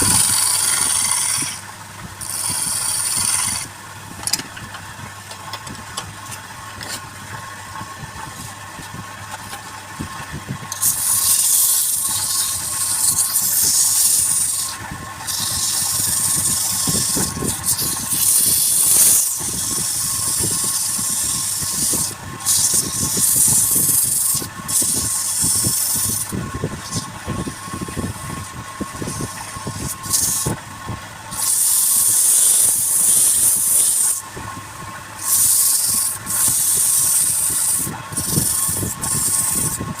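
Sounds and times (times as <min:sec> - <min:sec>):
turning tool hissing on wood: 0:00.0 - 0:03.7, 0:10.7 - 0:30.6, 0:31.2 - 0:40.0
wood lathe humming: 0:00.0 - 0:40.0.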